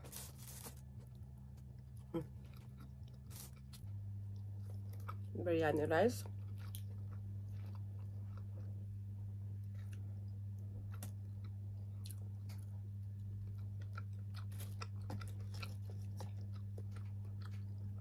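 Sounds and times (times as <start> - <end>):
person chewing rice: 0.0 - 5.3, 6.2 - 18.0
steady low hum: 0.0 - 18.0.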